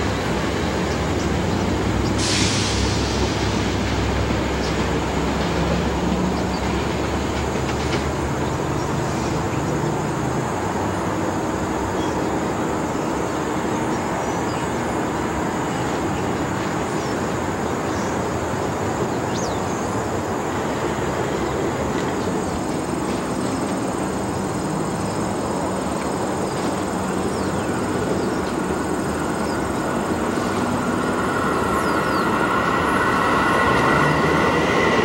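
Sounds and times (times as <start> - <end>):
background rush of noise: 0.0 - 35.0
train pulling away rumbling: 0.0 - 35.0.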